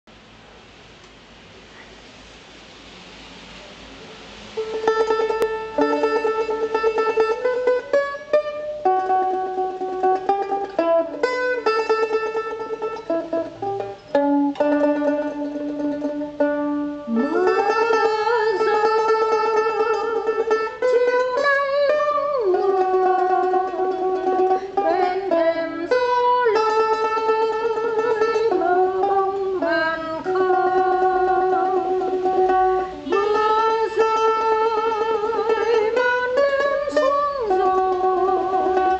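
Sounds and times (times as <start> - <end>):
plucked string instrument melody: 4.5 - 38.9.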